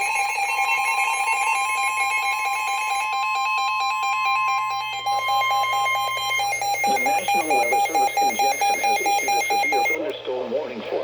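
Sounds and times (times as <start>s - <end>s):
fast warbling alarm: 0.0s - 10.1s
steady high alert tone: 0.0s - 10.1s.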